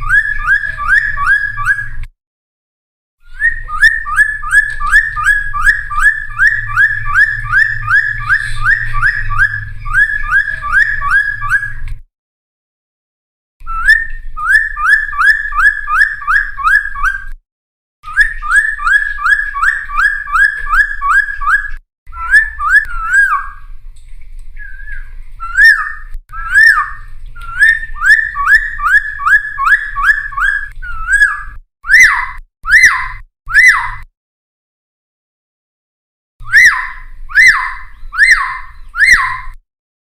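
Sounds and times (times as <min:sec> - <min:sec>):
bird singing whistled notes: 0:00.0 - 0:02.0, 0:03.2 - 0:11.8, 0:13.6 - 0:17.4, 0:18.1 - 0:23.7, 0:24.6 - 0:34.1, 0:36.4 - 0:39.6.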